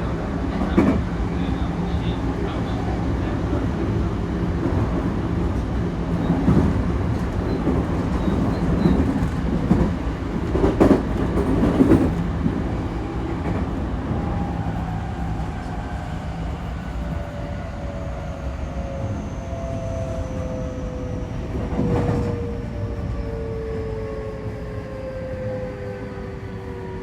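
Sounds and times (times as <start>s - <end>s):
electric train running on rails: 0.0s - 27.0s.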